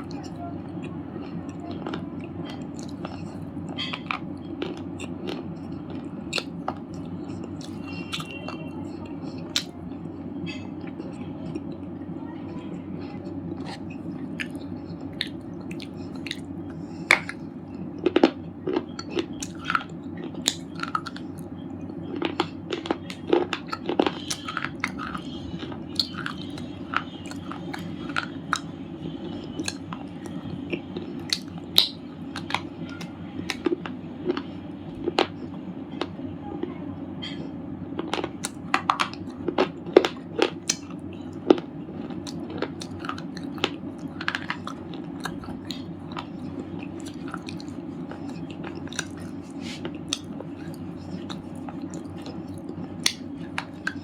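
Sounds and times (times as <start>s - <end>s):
low background noise: 0.0s - 54.0s
stone chips being chewed: 1.2s - 11.7s, 13.0s - 35.4s, 38.0s - 54.0s.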